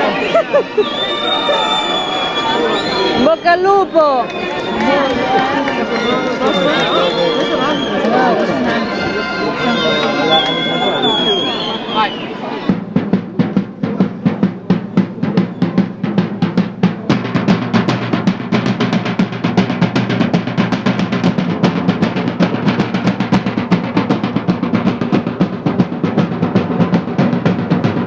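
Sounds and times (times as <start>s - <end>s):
side drums marching beat: 0.0s - 28.0s.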